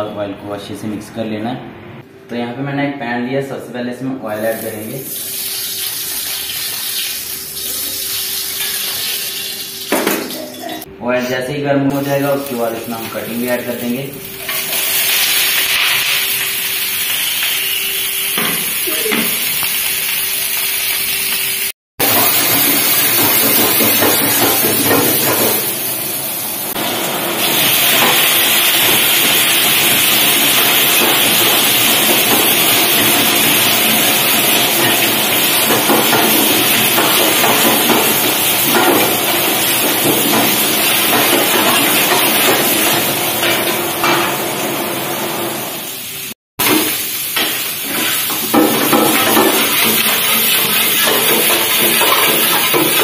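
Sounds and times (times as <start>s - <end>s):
vegetables sizzling in hot oil: 4.5s - 10.5s, 12.0s - 53.0s.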